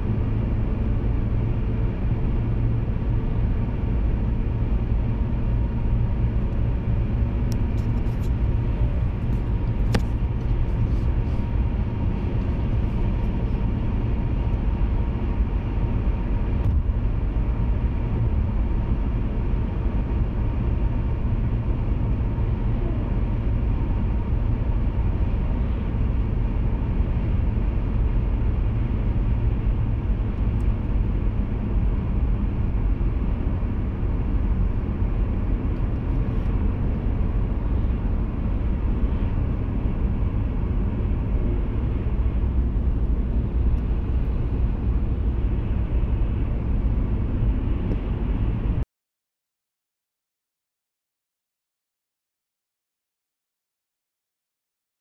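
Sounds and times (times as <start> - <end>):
car engine: 0.0 - 48.8.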